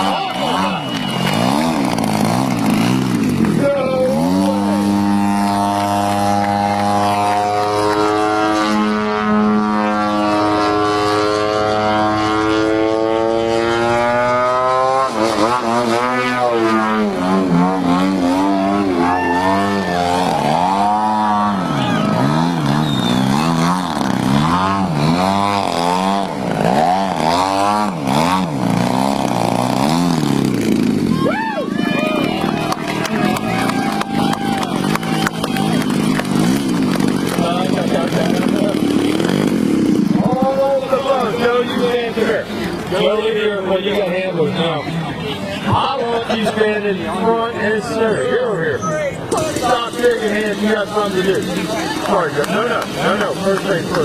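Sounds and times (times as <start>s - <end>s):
model airplane engine droning: 0.0s - 45.2s.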